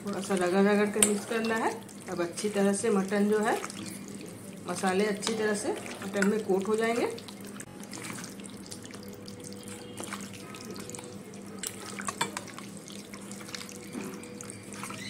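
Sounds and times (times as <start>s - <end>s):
low steady hum: 0.0s - 15.0s
wet squelching of meat mixed by hand: 0.0s - 15.0s.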